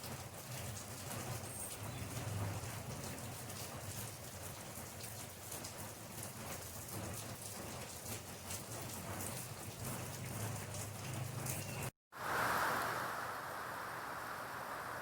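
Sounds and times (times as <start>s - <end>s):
rain drops ticking on surface: 0.0s - 15.0s.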